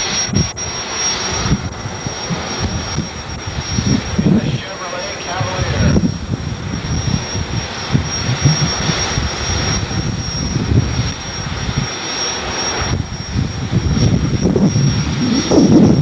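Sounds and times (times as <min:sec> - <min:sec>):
drag racing engine running: 0:00.0 - 0:16.0.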